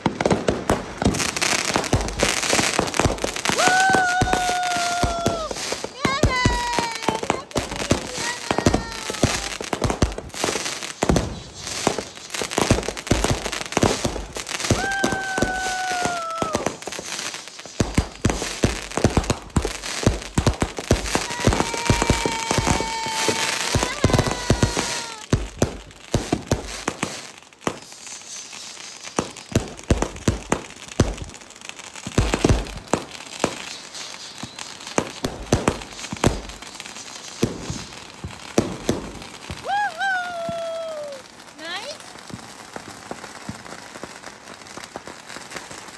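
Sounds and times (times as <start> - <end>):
fireworks bangs and crackling pops: 0.0 - 45.9
high firework whistles: 0.2 - 42.0.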